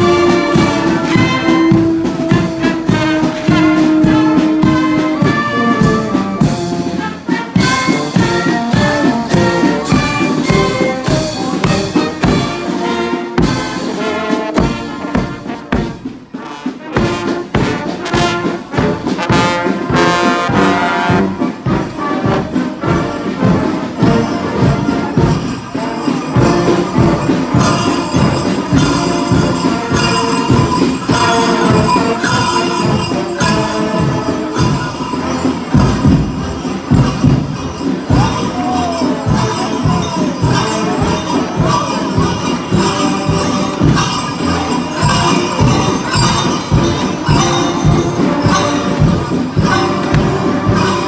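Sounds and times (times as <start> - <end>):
jingling bells: 0.0 - 16.4, 17.0 - 51.0
marching brass band playing: 0.0 - 51.0.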